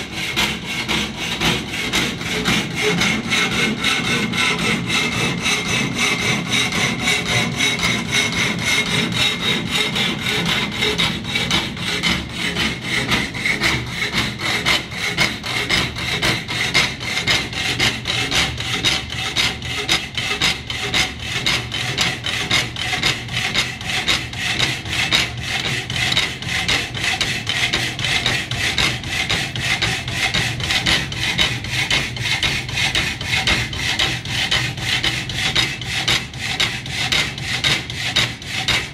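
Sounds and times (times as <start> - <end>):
power hacksaw cutting steel tubing: 0.0 - 38.9.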